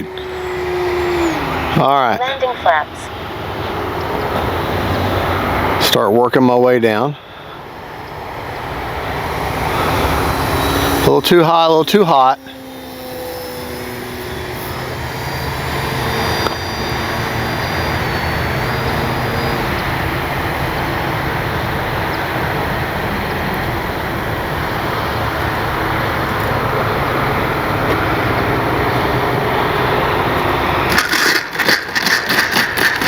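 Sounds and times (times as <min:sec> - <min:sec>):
faint electric motor whine: 0:00.0 - 0:05.8, 0:07.3 - 0:33.0
choppy gusting bursts: 0:00.0 - 0:33.0.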